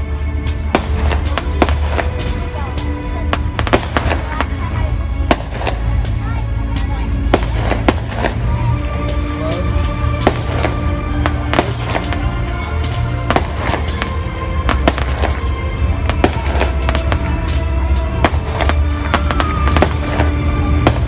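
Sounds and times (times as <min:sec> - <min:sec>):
low rumble: 0:00.0 - 0:21.0
music playing: 0:00.0 - 0:21.0
fireworks bangs: 0:00.4 - 0:21.0.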